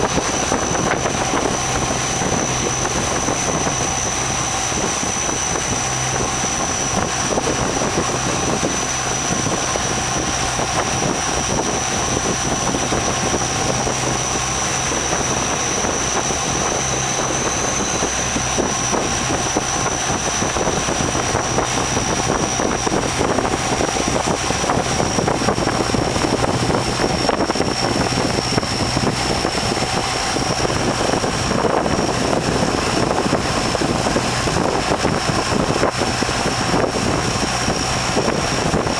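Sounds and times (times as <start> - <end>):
boat engine running: 0.0 - 38.9
high thin whine: 0.0 - 38.9
wind buffeting microphone: 0.0 - 38.9.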